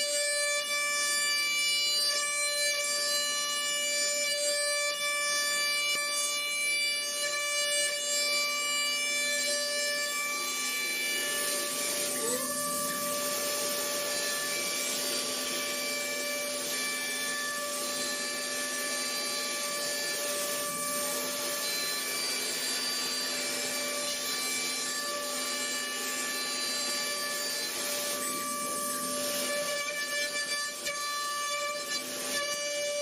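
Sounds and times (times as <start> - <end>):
cnc spindle whine: 0.0 - 33.0.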